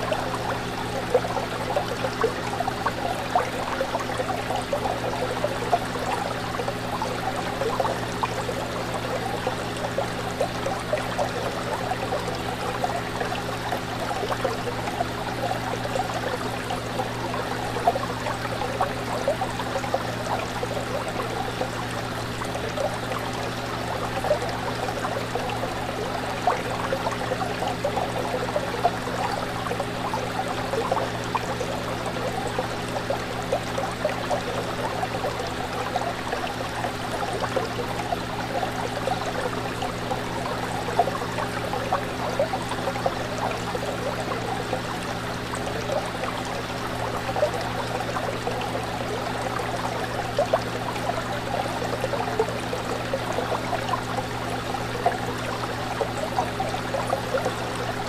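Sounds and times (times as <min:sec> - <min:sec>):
fish tank water bubbling: 0:00.0 - 0:58.0.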